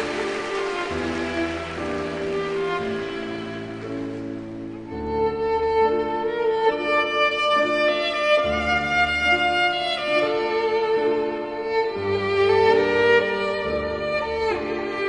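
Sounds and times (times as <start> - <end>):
bowed violin melody: 0.0 - 15.0.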